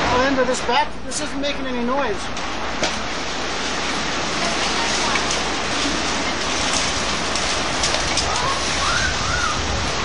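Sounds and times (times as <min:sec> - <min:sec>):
heavy rain and wind: 0:00.0 - 0:10.0
rain drops striking: 0:00.0 - 0:10.0.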